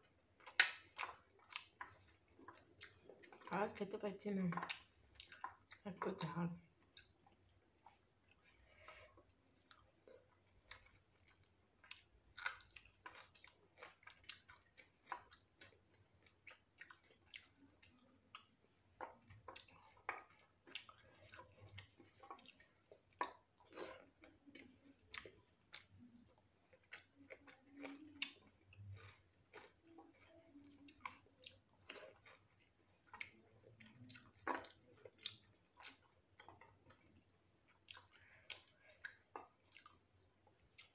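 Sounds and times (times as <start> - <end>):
person chewing with mouth clicks: 0.1 - 3.5, 4.4 - 40.9.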